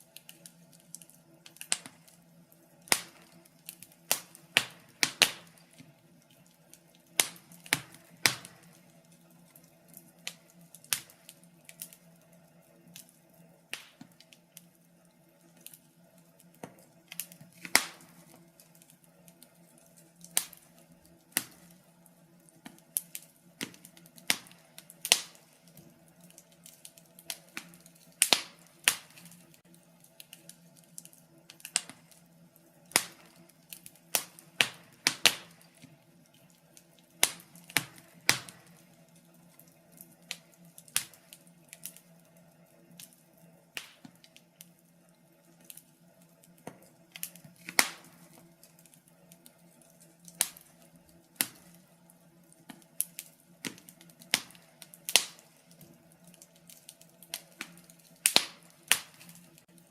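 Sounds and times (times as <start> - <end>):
burning logs popping: 0.0 - 59.9
wood fire crackling: 0.0 - 59.9.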